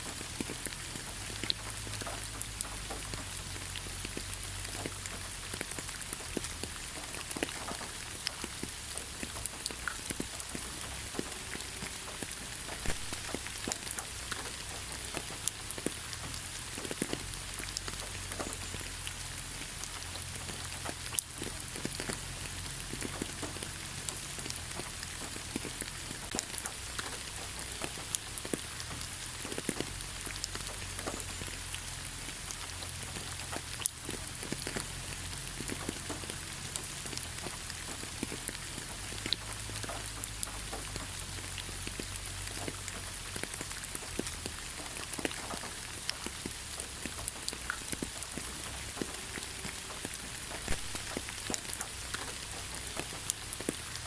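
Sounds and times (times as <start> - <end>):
raindrops pattering close: 0.0 - 54.0
steady rain hiss: 0.0 - 54.0.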